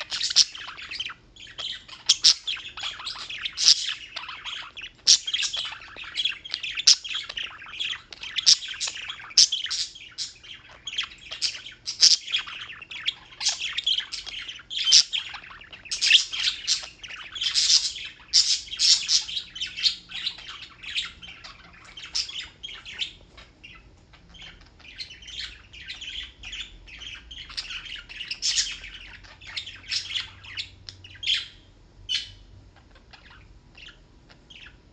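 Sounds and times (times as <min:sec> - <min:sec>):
bird squawks: 0:00.0 - 0:34.9
birds chirping: 0:00.0 - 0:34.9.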